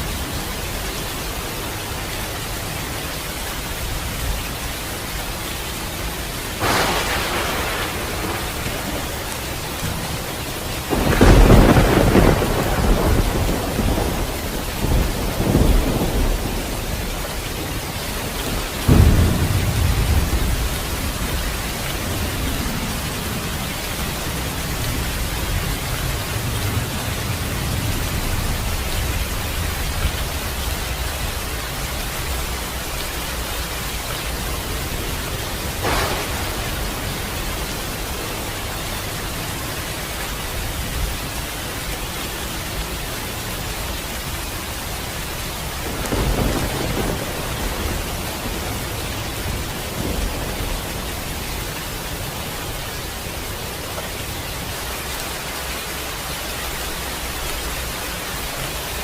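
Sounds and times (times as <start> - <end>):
heavy rain: 0.0 - 59.0
thunder rumbling and cracking: 6.2 - 59.0.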